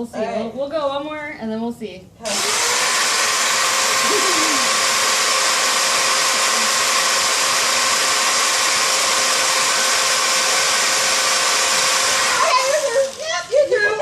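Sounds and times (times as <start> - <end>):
small electric drill whining: 2.3 - 13.6.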